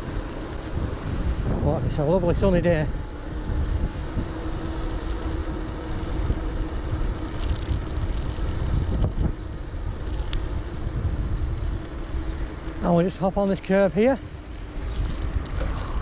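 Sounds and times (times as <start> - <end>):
electric bike motor hum: 0.0 - 16.0
wind rushing over microphone: 0.0 - 16.0.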